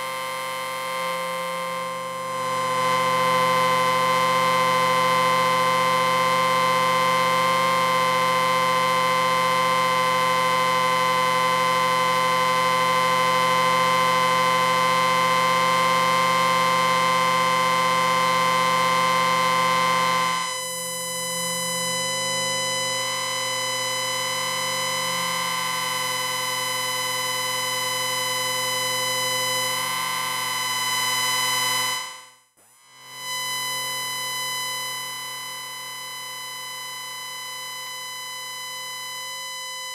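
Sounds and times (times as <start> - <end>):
amplifier electronic whine: 0.0 - 39.9.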